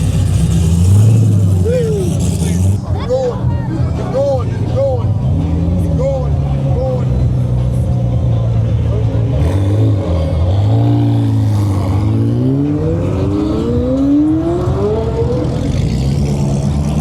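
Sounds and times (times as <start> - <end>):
car engine revving: 0.0 - 3.0, 3.9 - 17.0.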